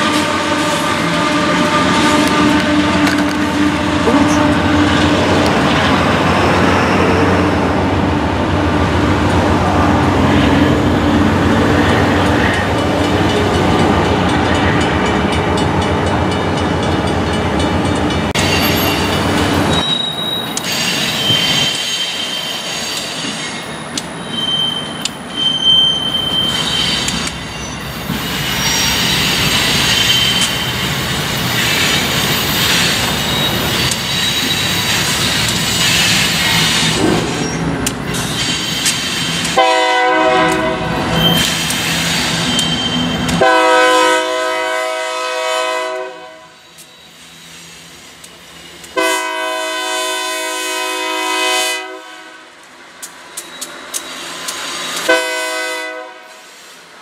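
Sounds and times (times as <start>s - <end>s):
diesel locomotive engine drone: 0.0s - 22.3s, 23.1s - 57.0s
approaching train rumble: 0.0s - 57.0s
steel wheels on rail: 0.0s - 57.0s.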